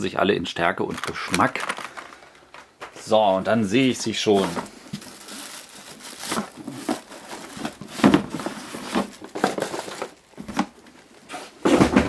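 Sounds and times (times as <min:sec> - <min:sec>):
cardboard packaging rustling: 0:00.9 - 0:12.0.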